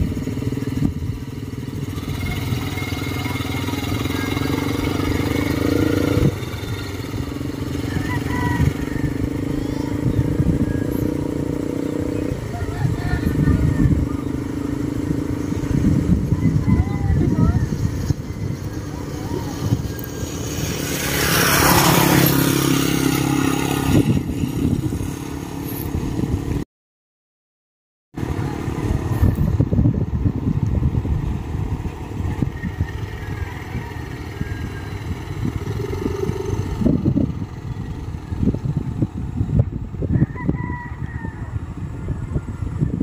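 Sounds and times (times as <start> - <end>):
motorcycle engine running: 0.0 - 26.6, 28.2 - 43.0
wind rumble on microphone: 0.0 - 26.6, 28.2 - 43.0.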